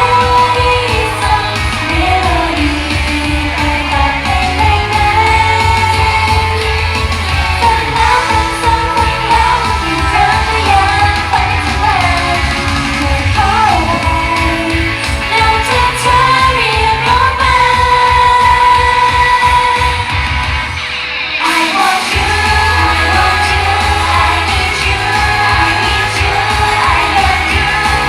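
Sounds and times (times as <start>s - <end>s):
pop song with female singing: 0.0s - 28.0s.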